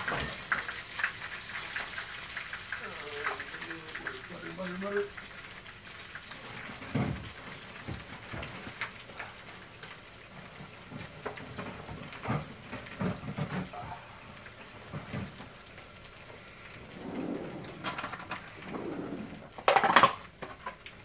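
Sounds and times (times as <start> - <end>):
cheese sizzling in hot oil: 0.0 - 21.0.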